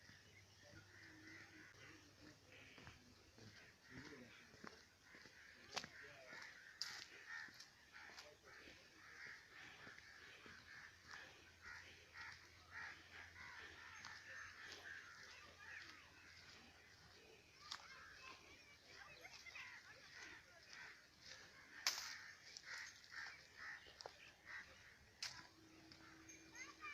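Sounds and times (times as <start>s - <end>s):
faint birds calling: 0.0s - 26.9s.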